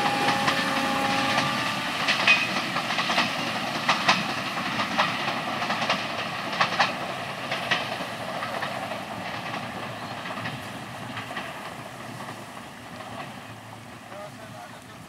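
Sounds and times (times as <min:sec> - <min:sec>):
train wheels clacking over rail joints: 0:00.0 - 0:14.8.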